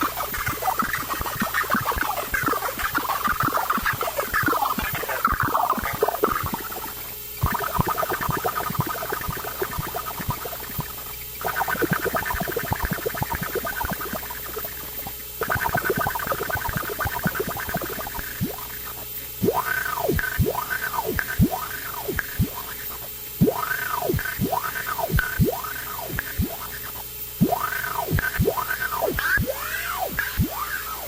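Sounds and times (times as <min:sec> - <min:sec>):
buzzing synthesizer tone: 0:00.0 - 0:31.0
glitchy crackling clicks: 0:00.0 - 0:31.0
warbling gliding chirps: 0:00.0 - 0:31.0.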